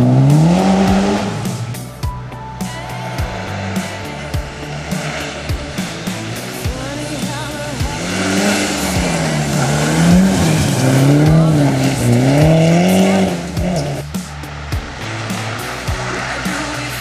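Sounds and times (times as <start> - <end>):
music with steady beat: 0.0 - 17.0
rally car engine revving: 0.0 - 17.0.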